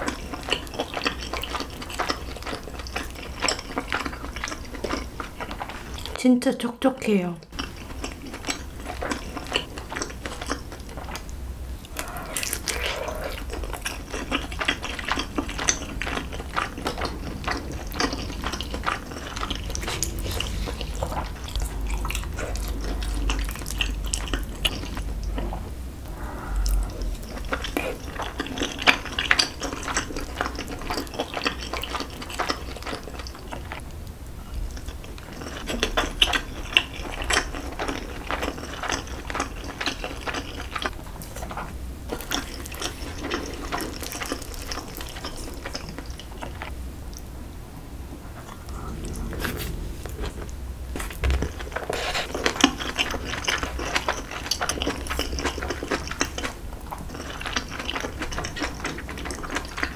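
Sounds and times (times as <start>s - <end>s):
chewing and mouth smacks: 0.0s - 6.2s, 7.5s - 33.9s, 34.5s - 47.3s, 48.2s - 59.9s.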